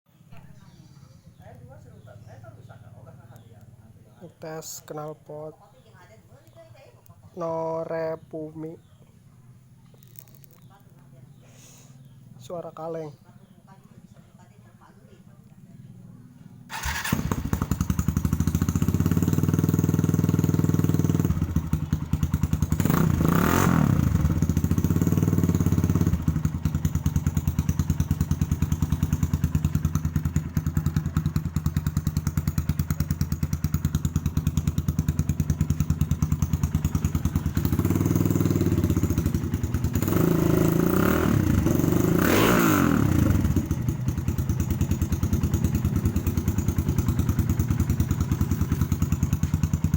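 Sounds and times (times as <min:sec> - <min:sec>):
motorcycle idling and revving: 0:00.1 - 0:49.9.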